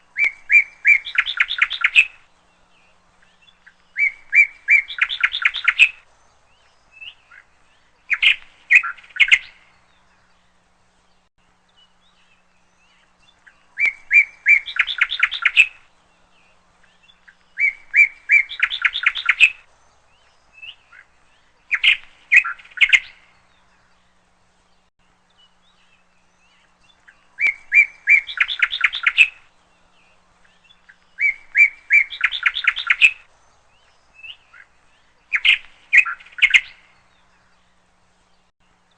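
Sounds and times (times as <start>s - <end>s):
bird singing trilled phrases: 0.0s - 38.9s.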